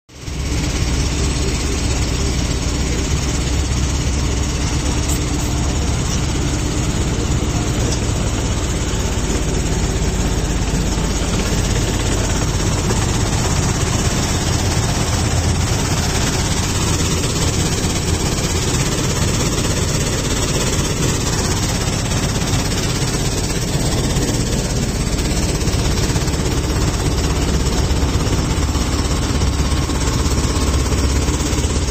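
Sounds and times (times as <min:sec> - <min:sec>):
sand washing machine droning: 0:00.1 - 0:31.9.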